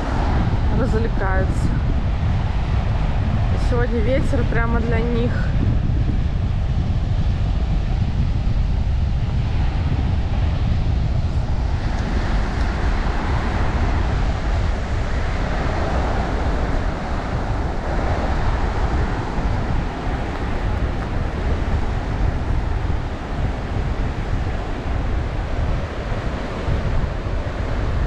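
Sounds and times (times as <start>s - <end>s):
sea waves breaking: 0.0s - 8.0s, 8.7s - 28.0s
wind buffeting microphone: 0.0s - 28.0s.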